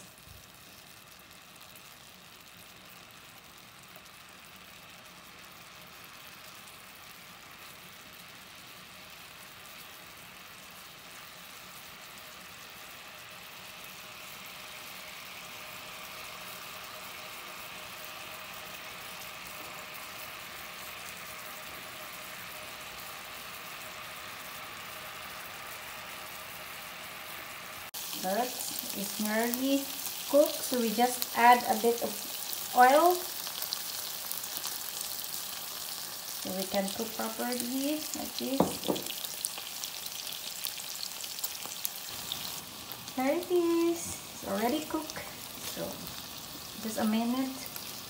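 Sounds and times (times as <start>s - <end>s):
sausages sizzling in a frying pan: 0.0s - 48.0s.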